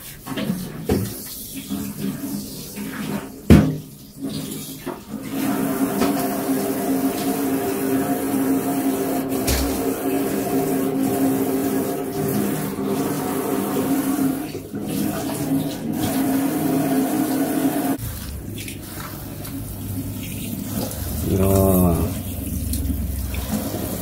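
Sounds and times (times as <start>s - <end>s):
tap running water into colander: 0.1s - 24.0s.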